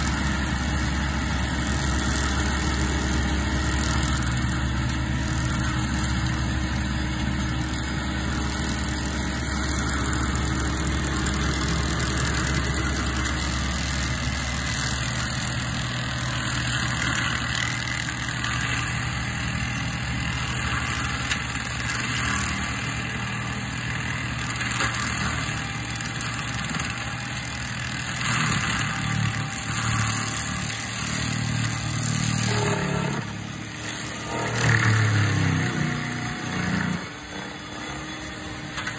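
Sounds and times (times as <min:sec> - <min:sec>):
diesel engine running under load: 0:00.0 - 0:38.9
rotor shredding brush: 0:00.0 - 0:38.9.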